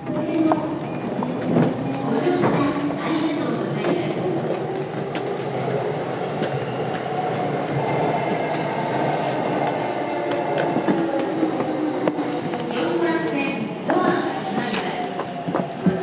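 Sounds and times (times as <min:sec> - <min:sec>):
train wheel and rail rumble: 0:00.0 - 0:16.0.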